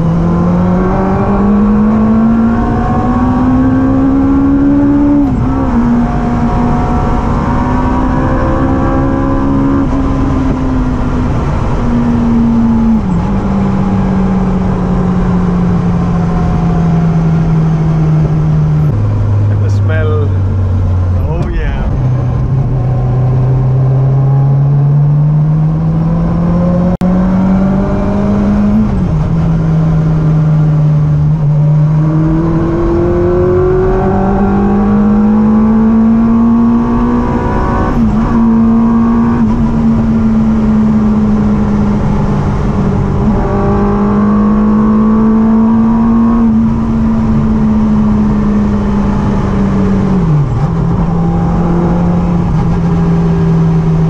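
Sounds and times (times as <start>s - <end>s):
motorcycle engine revving in car: 0.0s - 54.0s.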